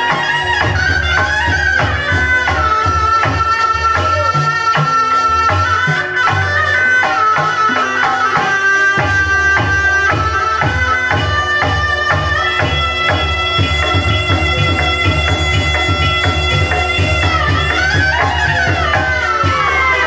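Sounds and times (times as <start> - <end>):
hand drums beating: 0.0 - 20.0
shrill shawm melody: 0.0 - 20.0.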